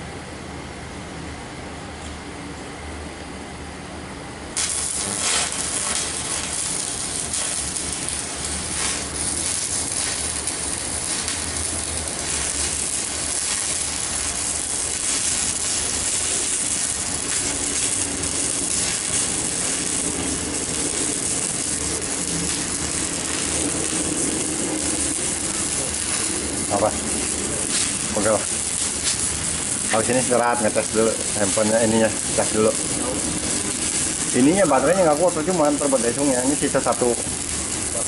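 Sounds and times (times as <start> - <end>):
welding arc hiss and crackle: 4.5 - 38.0.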